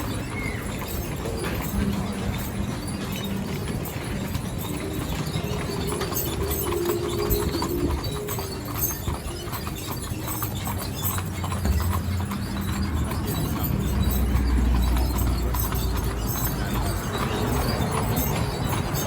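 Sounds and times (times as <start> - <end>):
horse hooves clip-clopping: 0.0 - 19.0.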